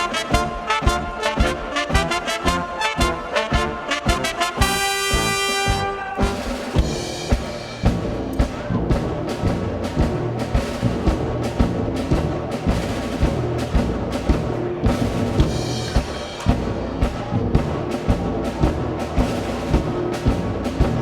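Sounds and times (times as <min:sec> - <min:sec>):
brass and drum music: 0:00.0 - 0:21.0.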